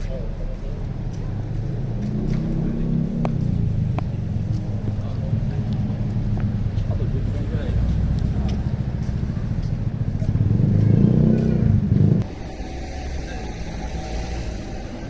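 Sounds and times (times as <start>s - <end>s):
low street hum: 0.0s - 15.0s
vehicle engine running: 0.0s - 15.0s.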